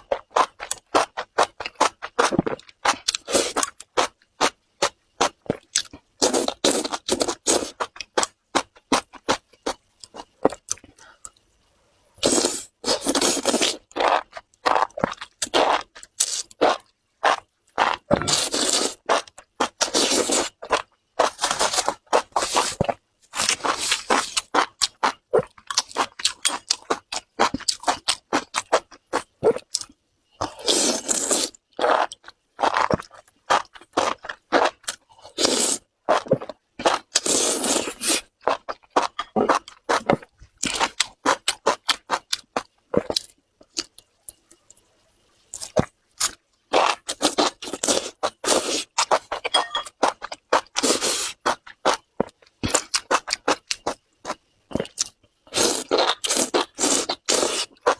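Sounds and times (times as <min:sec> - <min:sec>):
crunchy wet chewing: 0:00.0 - 0:11.4, 0:12.2 - 0:44.8, 0:45.5 - 0:57.9.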